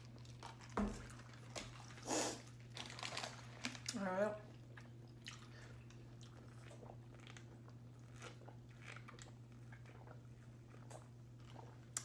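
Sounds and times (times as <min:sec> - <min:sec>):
person chewing and crunching food: 0:00.0 - 0:12.0.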